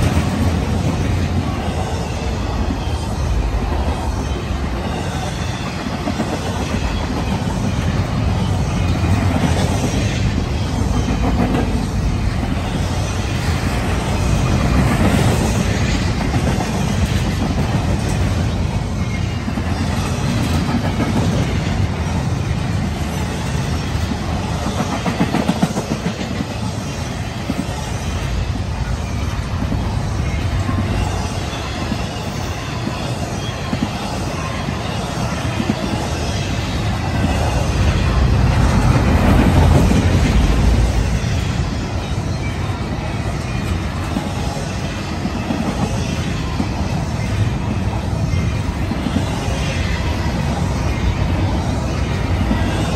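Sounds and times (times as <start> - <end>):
freight train wheels on rails: 0.0 - 52.9.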